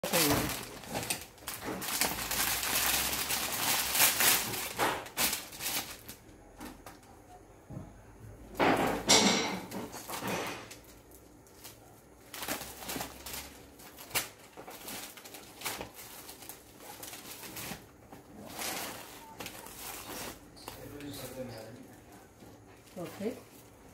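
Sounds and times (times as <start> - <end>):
plastic packaging crinkling: 0.0 - 7.1, 9.7 - 23.9.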